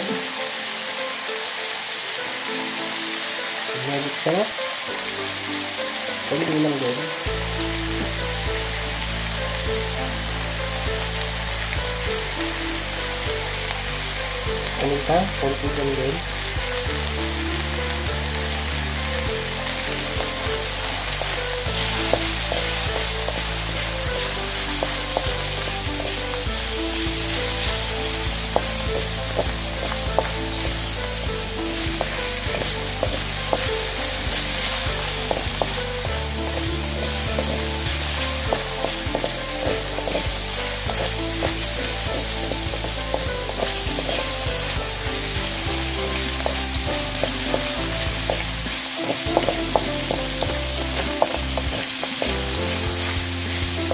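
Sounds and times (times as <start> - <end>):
food sizzling in a wok: 0.0 - 53.9.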